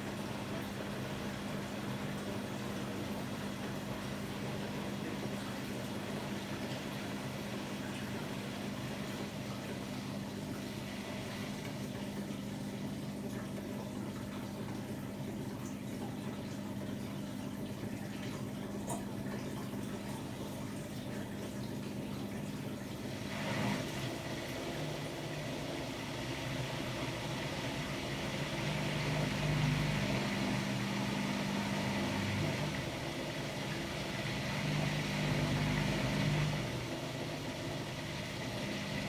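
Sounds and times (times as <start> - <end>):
washing machine hum: 0.0 - 39.0
water flowing in washing machine: 0.0 - 39.0.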